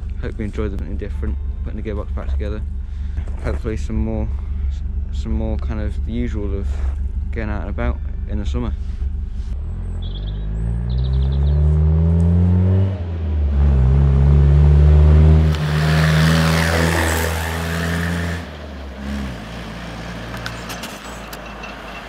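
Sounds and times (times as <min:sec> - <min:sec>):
car engine changing gear: 0:00.0 - 0:22.0.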